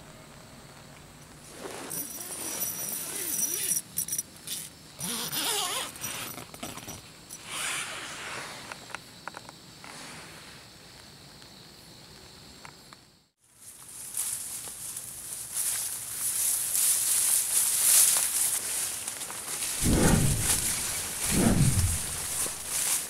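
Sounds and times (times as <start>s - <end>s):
insects trilling: 0.2s - 23.0s
rustles: 0.3s - 12.8s, 13.4s - 23.0s.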